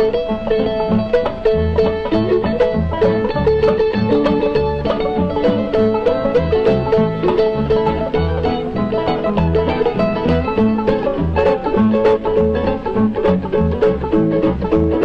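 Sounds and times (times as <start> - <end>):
plucked string notes: 0.0 - 15.0
pulsing bass line: 0.0 - 15.0.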